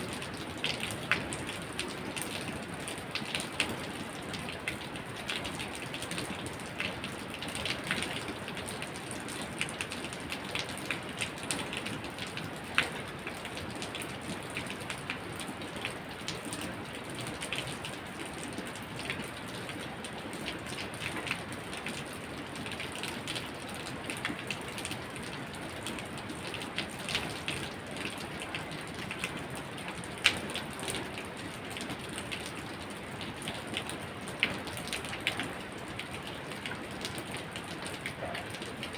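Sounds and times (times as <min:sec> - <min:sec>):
rain drops on hard surface: 0:00.0 - 0:38.9.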